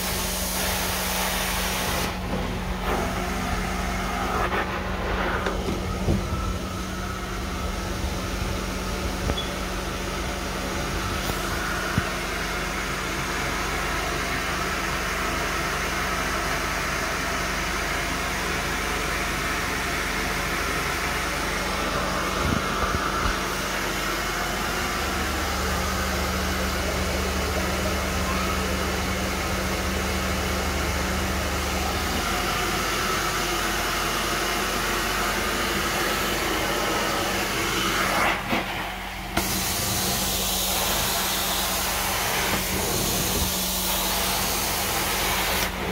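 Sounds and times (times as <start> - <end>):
carpet extraction vacuum running: 0.0 - 45.9.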